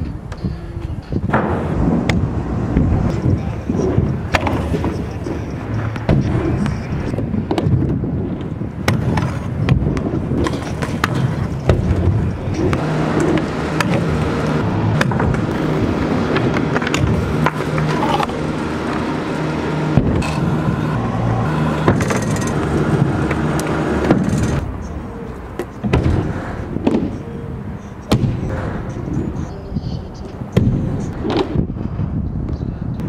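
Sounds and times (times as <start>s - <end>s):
scooter wheels rolling on ramps: 0.0s - 32.5s.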